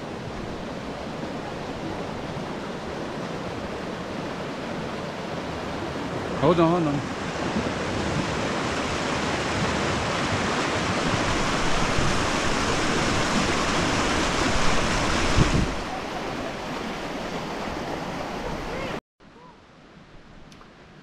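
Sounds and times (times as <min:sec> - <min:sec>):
creek rushing over rocks: 0:00.0 - 0:19.0.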